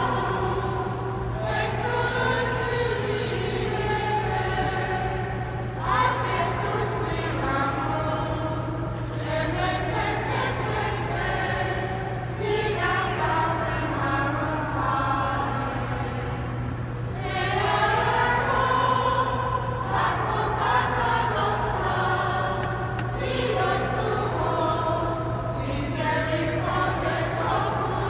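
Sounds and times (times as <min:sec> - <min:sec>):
choir singing sacred music: 0:00.0 - 0:28.0.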